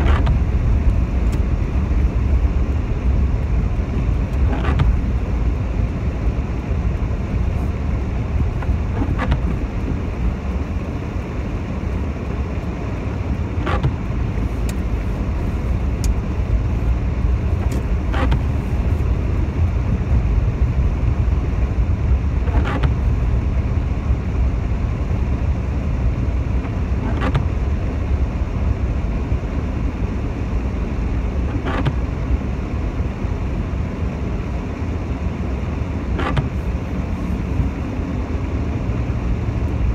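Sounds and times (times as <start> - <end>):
car engine and tyres on wet road: 0.0 - 39.9
windscreen wipers sweeping: 0.0 - 39.9.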